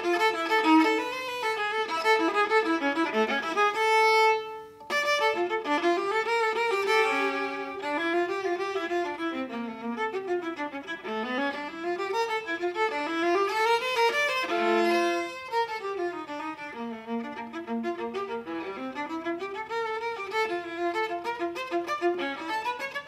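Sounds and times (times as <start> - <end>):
viola playing quick passages: 0.0 - 23.0.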